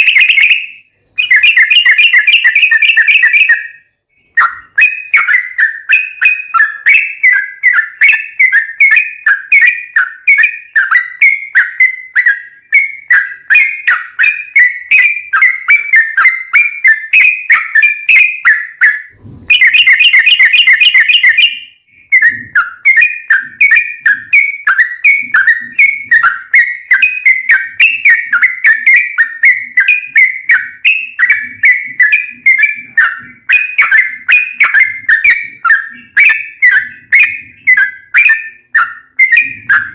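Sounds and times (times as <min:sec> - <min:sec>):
bird singing whistled phrases: 0:00.0 - 0:39.9
fast dense bird trill: 0:00.0 - 0:39.9.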